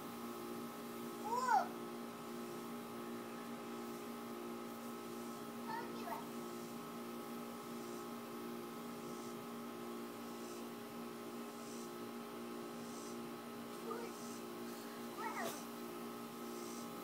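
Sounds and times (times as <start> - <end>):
steady tonal hum: 0.0 - 17.0.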